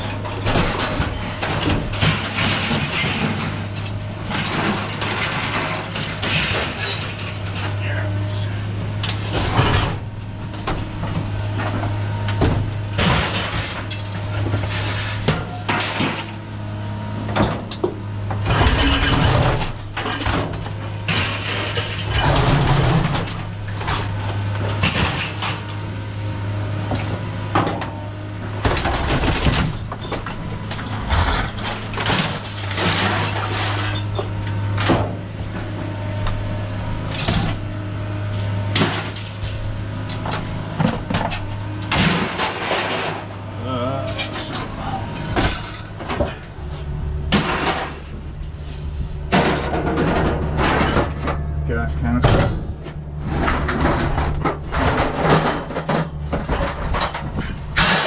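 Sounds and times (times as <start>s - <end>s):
metal clanks and rattles: 0.0s - 16.4s, 17.2s - 25.9s, 26.8s - 58.0s
engine idling hum: 0.0s - 58.0s.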